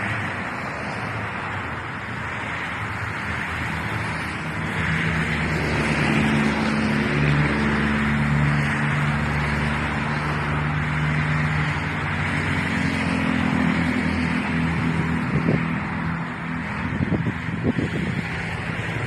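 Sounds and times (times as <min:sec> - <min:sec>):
engine drone: 0:00.0 - 0:19.0
wide rushing noise: 0:00.0 - 0:19.0.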